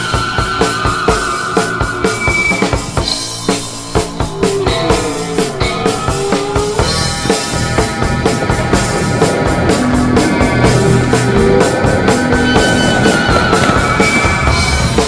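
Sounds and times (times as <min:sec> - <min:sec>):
drum kit beat: 0:00.0 - 0:15.0
sustained instrument notes: 0:00.0 - 0:15.0.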